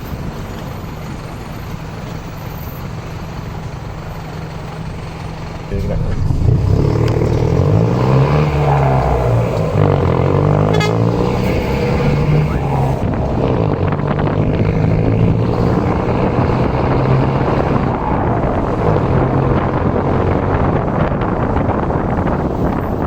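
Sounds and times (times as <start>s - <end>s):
diesel bus engine running: 0.0s - 23.0s.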